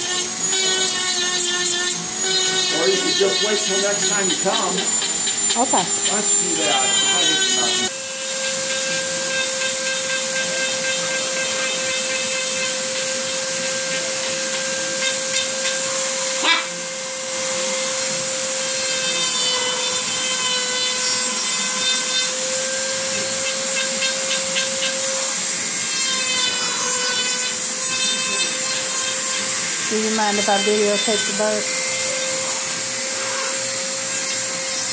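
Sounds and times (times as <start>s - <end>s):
rotary grinding tool: 0.0s - 34.9s.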